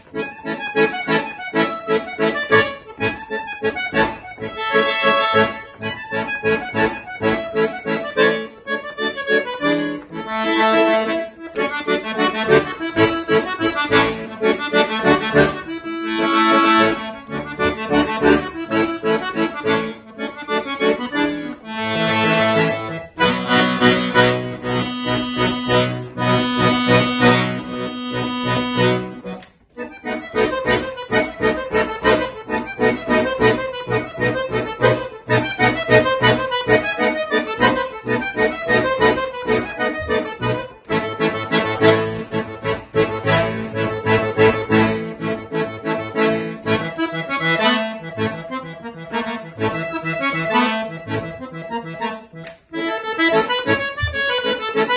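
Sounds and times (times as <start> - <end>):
solo accordion playing: 0.0 - 54.9.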